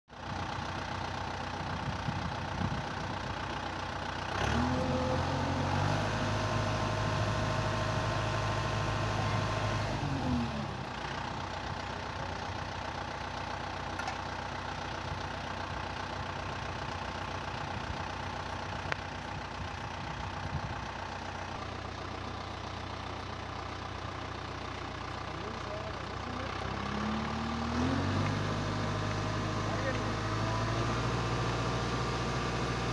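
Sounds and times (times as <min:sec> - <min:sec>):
tractor engine idling: 0:00.1 - 0:32.9.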